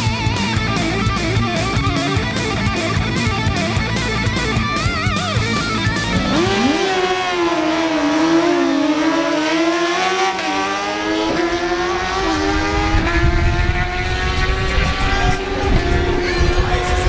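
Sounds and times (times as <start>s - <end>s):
motorcycles accelerating at high revs: 0.0s - 17.0s.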